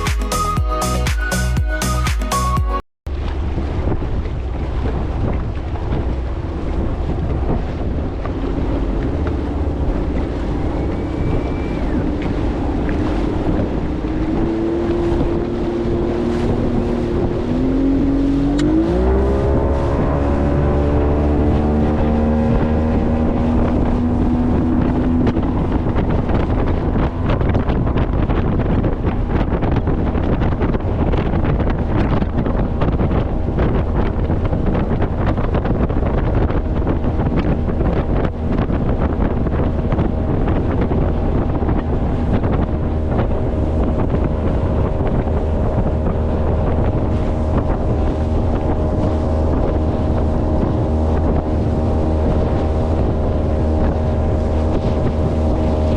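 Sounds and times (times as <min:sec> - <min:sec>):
motorboat engine running: 0:00.0 - 0:55.9
wind buffeting microphone: 0:03.1 - 0:55.9.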